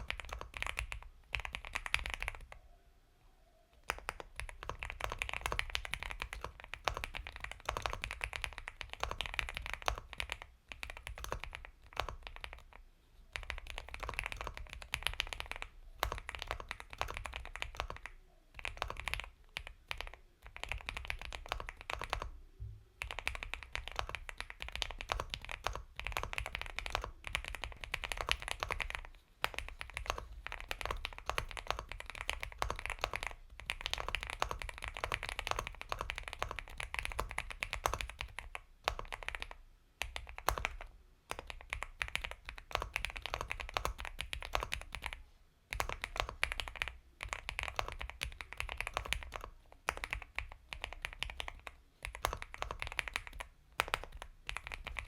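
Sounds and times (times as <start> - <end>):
mechanical keyboard typing: 0.0 - 2.6, 3.8 - 22.4, 23.0 - 55.0.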